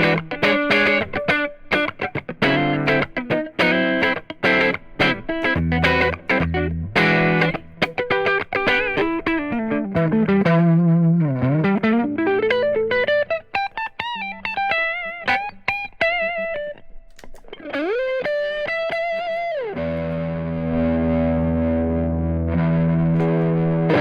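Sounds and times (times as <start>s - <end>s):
electric guitar lead line: 0.0s - 24.0s.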